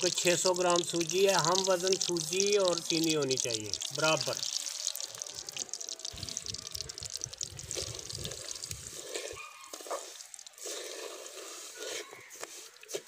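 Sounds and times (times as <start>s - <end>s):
sugar sizzling in hot fat: 0.0s - 13.0s.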